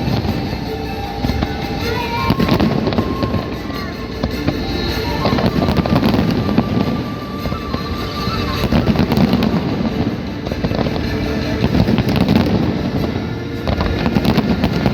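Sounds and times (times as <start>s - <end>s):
fireworks bursting and crackling: 0.0s - 14.9s.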